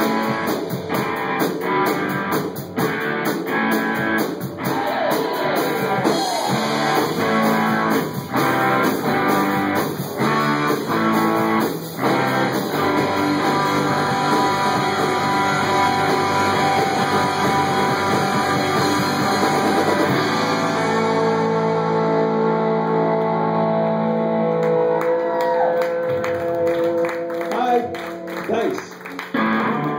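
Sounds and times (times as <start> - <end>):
live rock band playing: 0.0 - 29.9.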